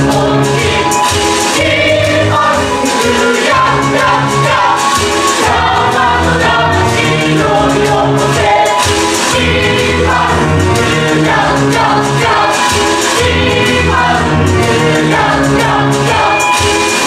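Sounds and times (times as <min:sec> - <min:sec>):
band with rhythmic bass line: 0:00.0 - 0:17.0.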